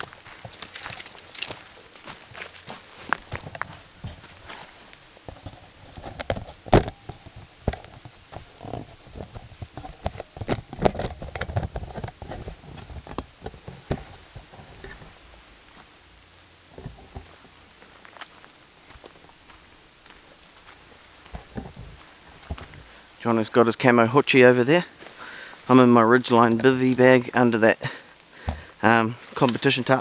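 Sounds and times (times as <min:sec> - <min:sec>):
footsteps crunching on leaves: 0:00.0 - 0:10.4, 0:12.1 - 0:23.3, 0:24.8 - 0:27.2, 0:28.1 - 0:30.0.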